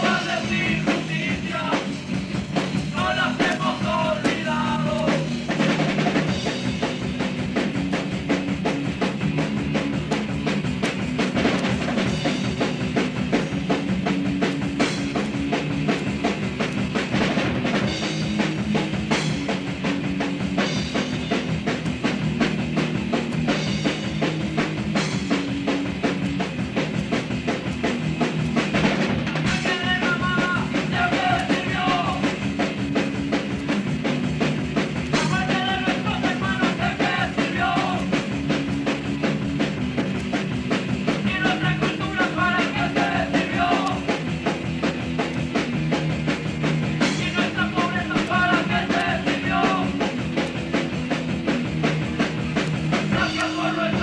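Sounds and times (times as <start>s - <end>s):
drum kit: 0.0s - 54.0s
punk rock band playing: 0.0s - 54.0s.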